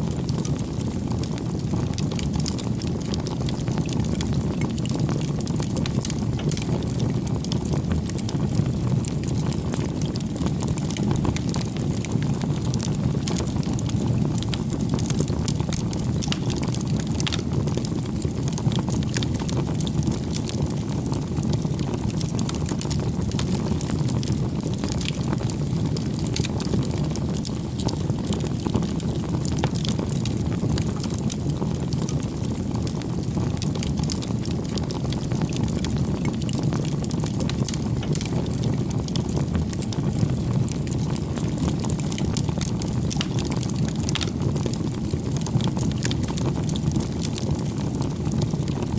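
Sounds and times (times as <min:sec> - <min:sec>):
low rush of flame: 0:00.0 - 0:48.6
wood fire crackles and pops: 0:00.0 - 0:48.9.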